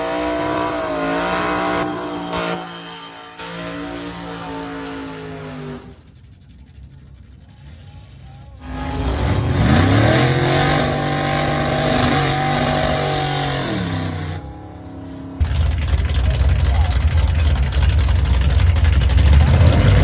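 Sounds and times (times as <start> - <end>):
drag car engine revving: 0.0 - 20.0.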